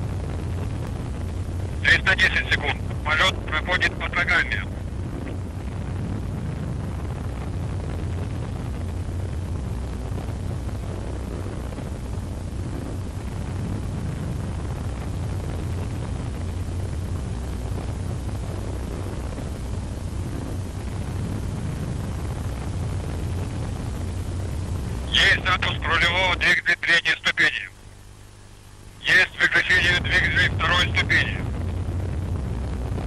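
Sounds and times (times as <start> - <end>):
steady rumbling roar: 0.0 - 26.6, 29.0 - 33.0.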